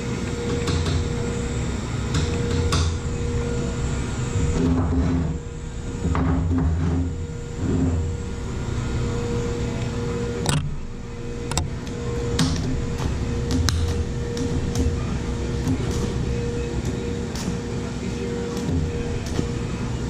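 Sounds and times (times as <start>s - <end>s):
arc welder crackling: 0.0s - 20.0s.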